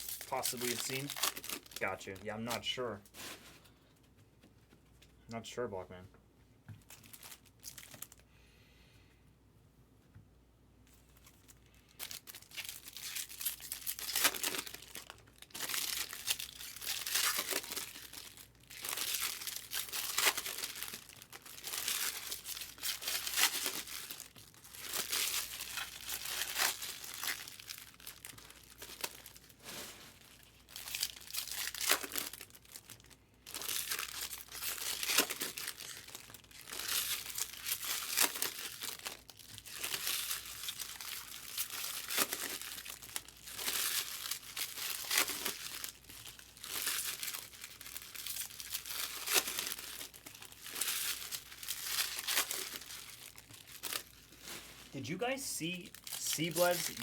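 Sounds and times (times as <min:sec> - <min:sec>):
foil wrappers tearing and crinkling: 0:00.0 - 0:03.5, 0:06.9 - 0:08.2, 0:11.2 - 0:57.0.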